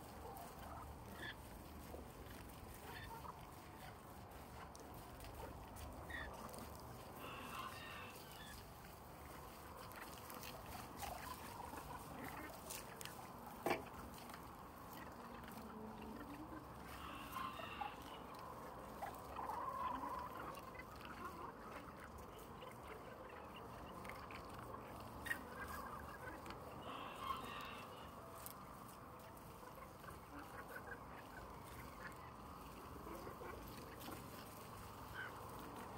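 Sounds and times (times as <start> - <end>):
chickens clucking: 0.0 - 35.9.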